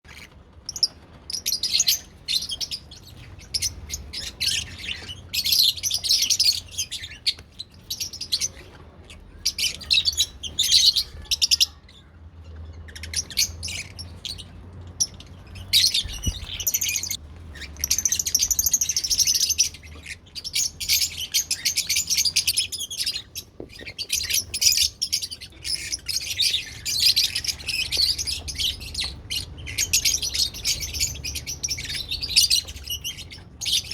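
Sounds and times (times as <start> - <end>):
lovebirds chirping: 0.1 - 33.9.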